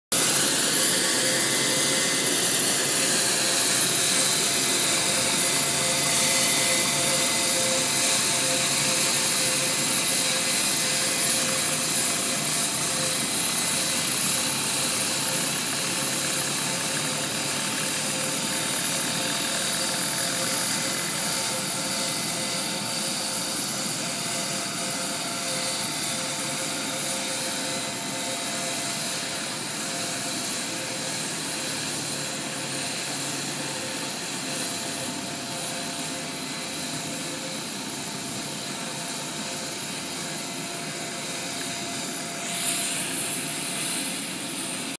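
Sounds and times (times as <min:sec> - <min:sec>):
jet turbines whining: 0:00.1 - 0:44.9.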